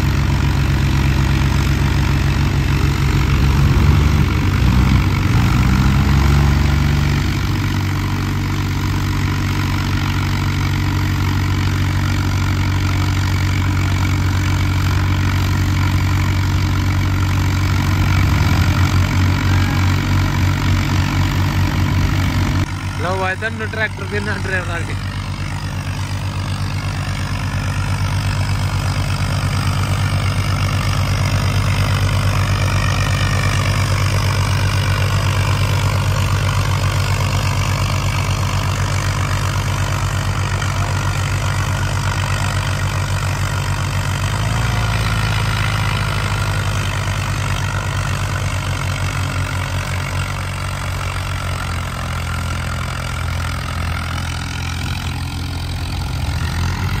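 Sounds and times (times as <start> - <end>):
tractor engines under heavy load: 0.0 - 57.0.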